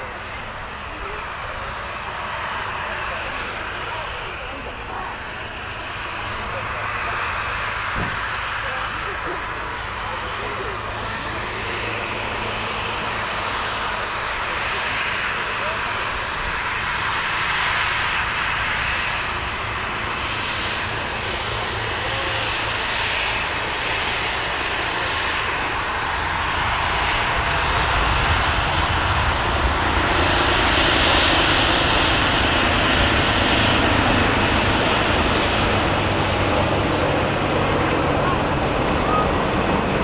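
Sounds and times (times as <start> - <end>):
jet engines taxiing: 0.0 - 40.0.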